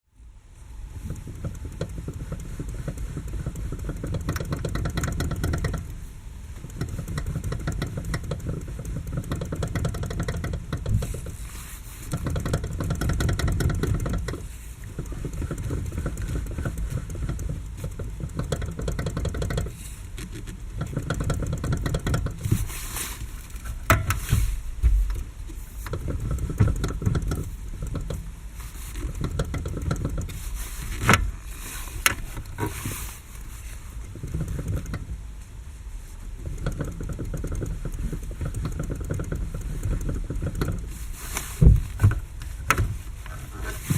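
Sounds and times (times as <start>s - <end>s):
steering rack knocking and clicking: 0.9s - 43.9s.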